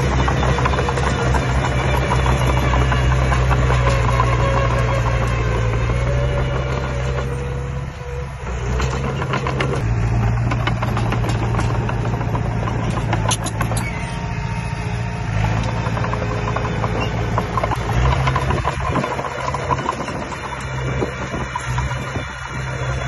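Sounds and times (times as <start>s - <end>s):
clanks and knocks: 0.0s - 7.7s, 8.7s - 14.2s, 15.3s - 23.0s
construction machine engine running: 0.0s - 23.0s.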